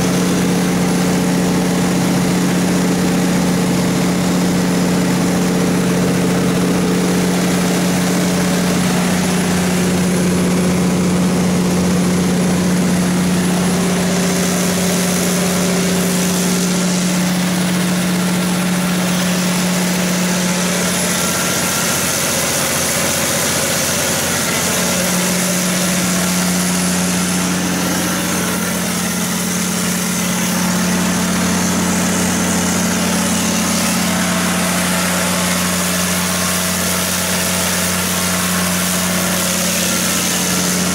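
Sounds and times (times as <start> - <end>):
diesel generator humming: 0.0 - 40.9.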